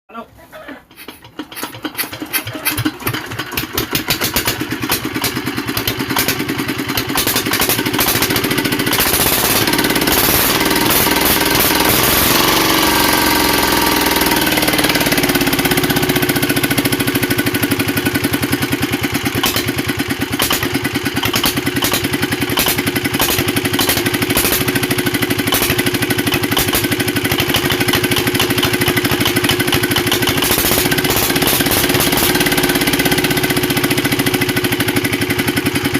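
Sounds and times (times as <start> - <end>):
diesel engine running: 1.2 - 35.9.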